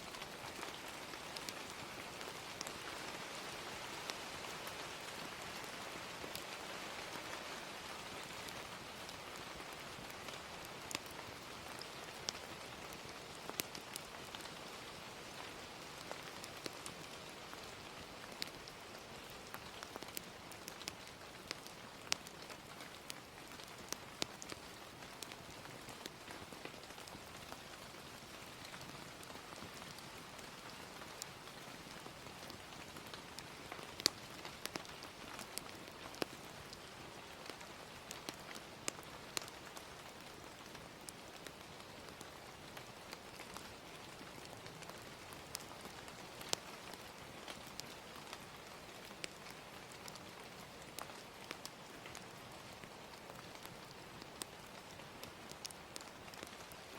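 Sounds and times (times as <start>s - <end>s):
gentle rain: 0.0s - 56.9s
wood fire crackling: 0.1s - 56.9s.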